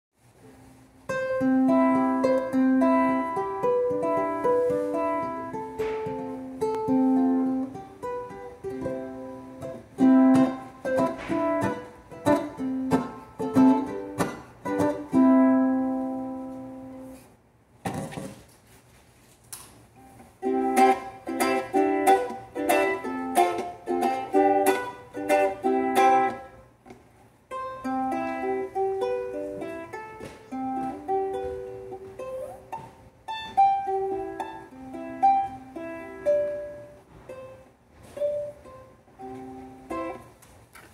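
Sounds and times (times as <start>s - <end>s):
ukulele plucked and strummed: 0.2s - 18.5s, 19.8s - 40.9s.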